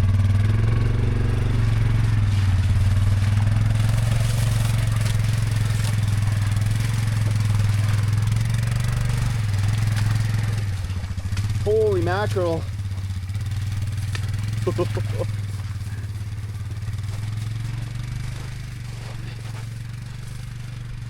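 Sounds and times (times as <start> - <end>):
quad engine running: 0.0 - 21.0.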